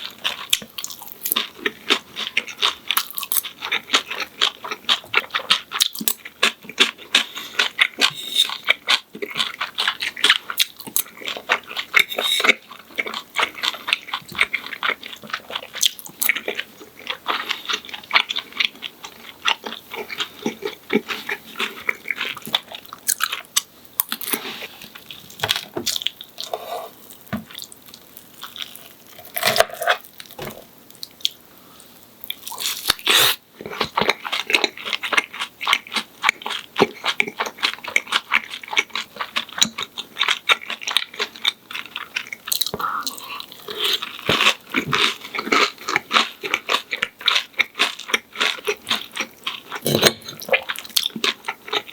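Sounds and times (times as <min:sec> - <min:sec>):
crunching and chewing fried food: 0:00.0 - 0:51.9.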